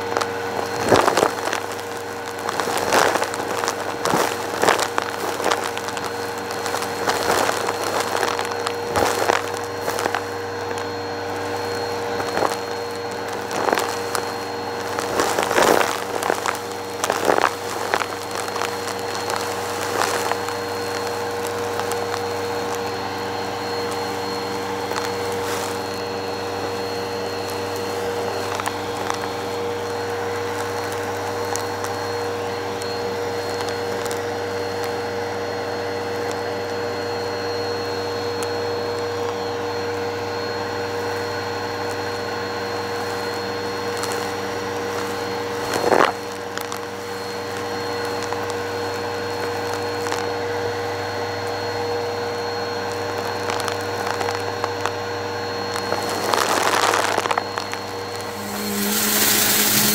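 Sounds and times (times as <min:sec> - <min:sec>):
debris crackling up hose: 0:00.0 - 0:35.0, 0:40.9 - 0:50.4, 0:52.8 - 0:59.9
vacuum motor hum with whine: 0:00.0 - 0:59.9.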